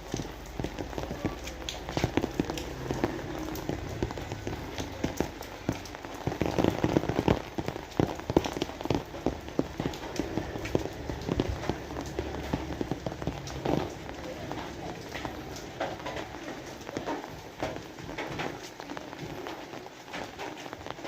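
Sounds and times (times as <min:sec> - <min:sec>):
raindrops ticking and splashing: 0:00.0 - 0:21.0.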